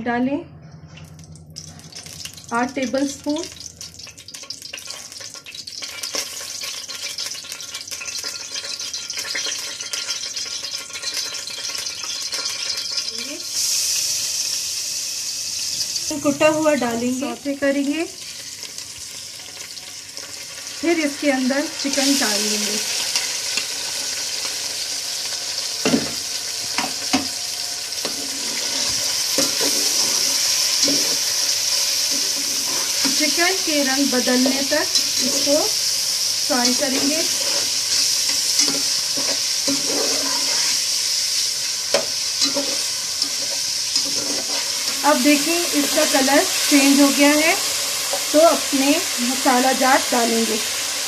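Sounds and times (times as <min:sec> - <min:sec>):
oil sizzling in a pot: 0:01.0 - 0:51.0.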